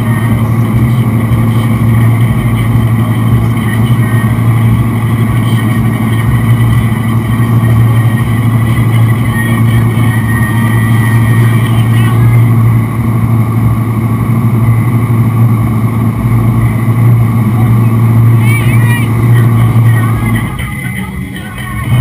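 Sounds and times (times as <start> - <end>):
boat engine droning: 0.0 - 22.0
churning wake rushing: 0.0 - 22.0.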